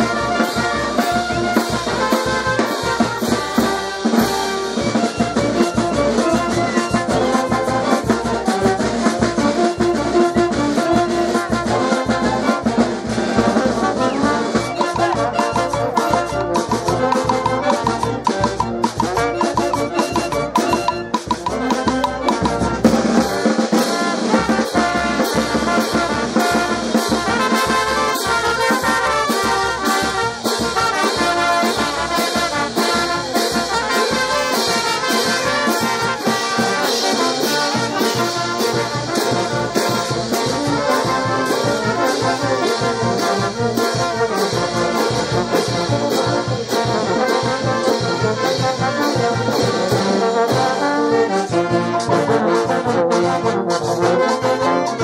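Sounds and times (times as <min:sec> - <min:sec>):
steady drum beat: 0:00.0 - 0:52.1
trumpets and trombones playing: 0:00.0 - 0:55.0.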